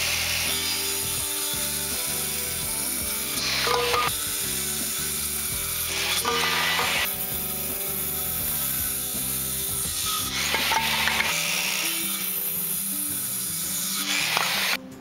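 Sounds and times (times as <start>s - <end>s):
circular saw cutting wood: 0.0s - 14.8s
background music: 0.0s - 15.0s.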